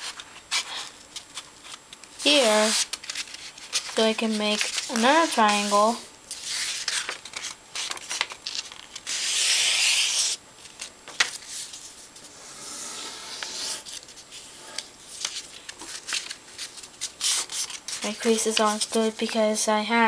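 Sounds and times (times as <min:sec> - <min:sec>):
paper rustling and rubbing: 0:00.0 - 0:19.4.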